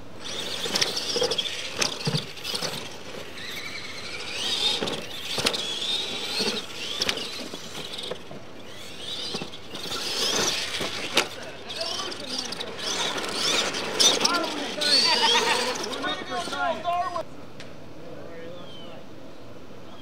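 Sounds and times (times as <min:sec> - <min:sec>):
electric motor whine: 0:00.0 - 0:16.8
tyre noise on dirt: 0:00.0 - 0:17.2
toy trucks landing knocks: 0:00.2 - 0:16.6.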